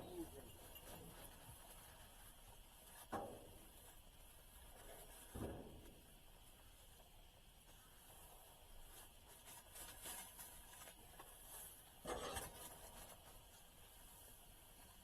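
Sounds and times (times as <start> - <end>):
rustling and scuffling: 0.0 - 7.0, 7.6 - 15.0.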